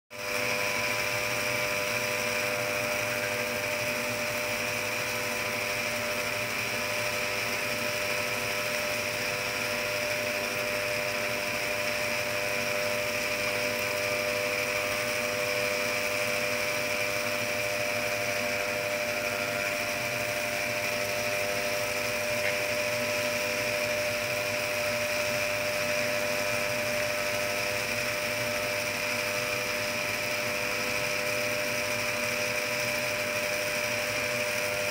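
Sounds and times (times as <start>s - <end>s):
knitting machine whirring: 0.2s - 34.9s.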